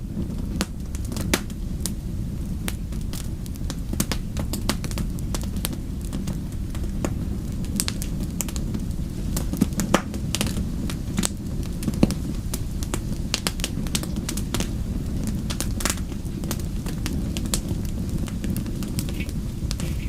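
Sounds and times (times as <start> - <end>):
fire crackling: 0.0 - 20.0
low fire rumble: 0.0 - 20.0.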